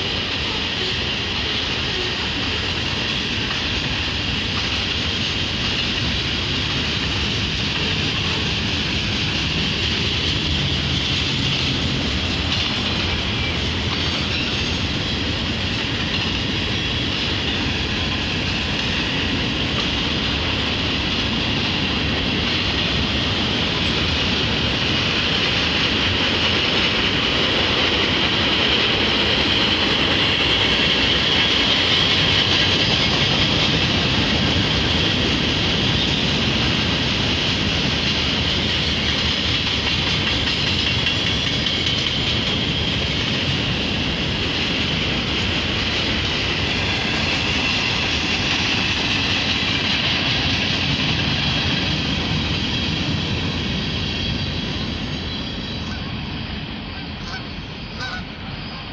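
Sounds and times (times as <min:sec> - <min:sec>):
freight train wheels on rails: 0:00.0 - 0:58.9.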